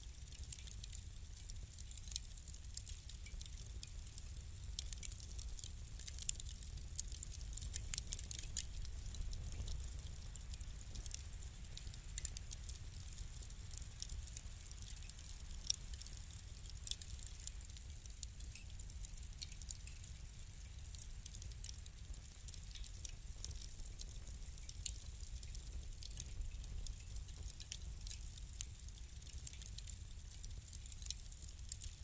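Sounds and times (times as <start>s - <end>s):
low fire rumble: 0.0s - 32.0s
wood fire crackling and popping: 0.0s - 32.0s.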